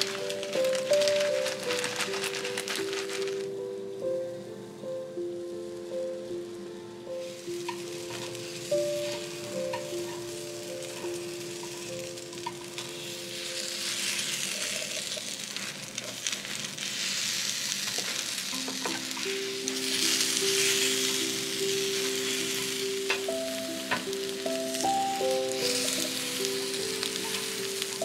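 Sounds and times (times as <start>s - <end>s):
batter sizzling on a hot plate: 0.0s - 3.6s, 5.2s - 28.0s.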